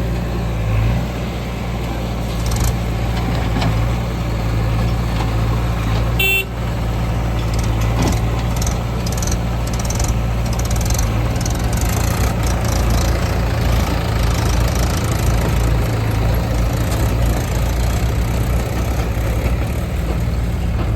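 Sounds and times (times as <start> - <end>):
heavy diesel engine running: 0.0 - 20.9.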